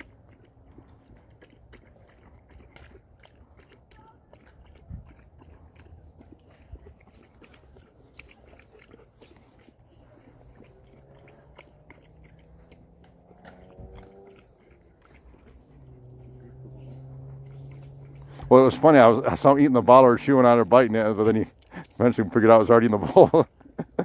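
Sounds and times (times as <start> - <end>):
dog chewing plastic bowl: 0.0 - 22.9.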